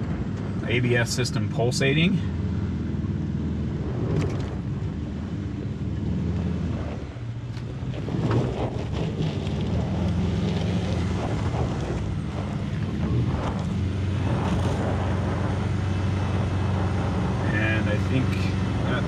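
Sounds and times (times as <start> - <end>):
truck engine under throttle: 2.0 - 19.0.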